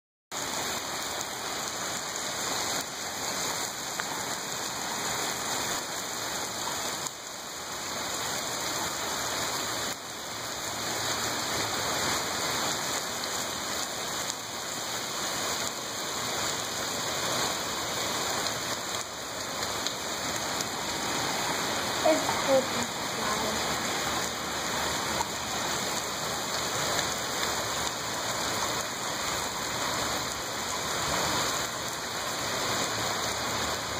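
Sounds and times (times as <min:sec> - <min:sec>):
heavy rain on pavement: 0:00.3 - 0:33.9.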